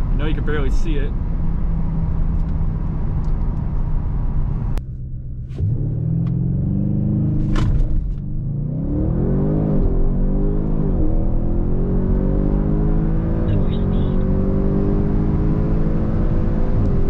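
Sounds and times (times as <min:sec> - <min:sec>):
car engine accelerating: 0:00.0 - 0:17.0
engine and road drone: 0:00.0 - 0:17.0.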